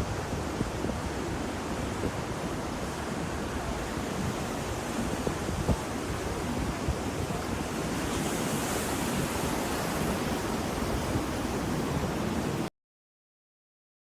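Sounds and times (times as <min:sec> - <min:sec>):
ocean waves breaking on shore: 0:00.0 - 0:12.7.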